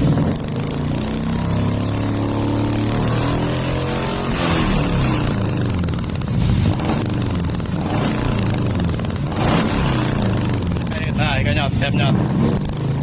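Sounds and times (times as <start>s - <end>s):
pickup engine revving: 0.0s - 13.0s.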